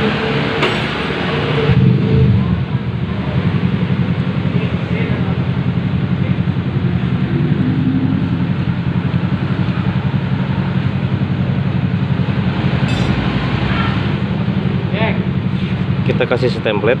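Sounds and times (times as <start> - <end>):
small engine idling: 2.2 - 17.0.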